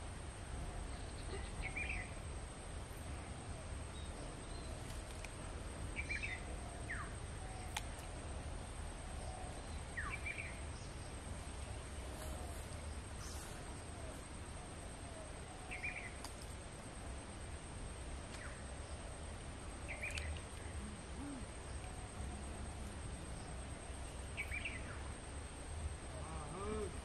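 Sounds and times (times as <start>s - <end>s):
steady low rumble and hiss: 0.0s - 27.0s.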